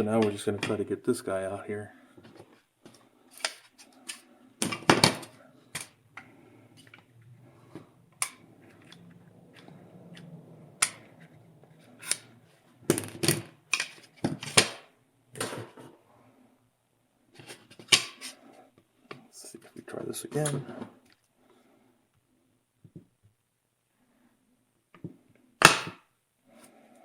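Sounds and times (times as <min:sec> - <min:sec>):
faint low hum: 0:00.0 - 0:25.6.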